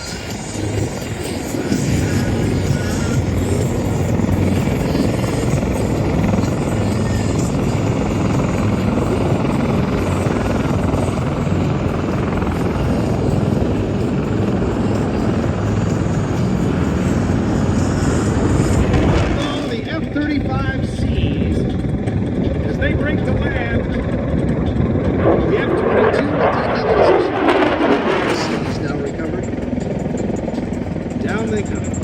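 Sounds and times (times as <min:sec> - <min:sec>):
helicopter rotor chop: 0:00.0 - 0:32.0.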